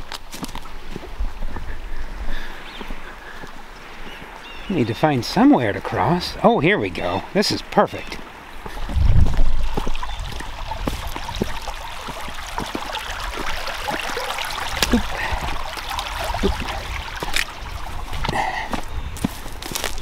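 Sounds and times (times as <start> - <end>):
creek trickling over stones: 0.0 - 20.0.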